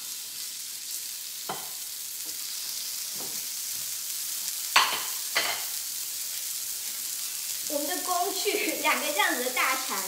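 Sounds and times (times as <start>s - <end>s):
meat sizzling on a griddle: 0.0s - 10.0s.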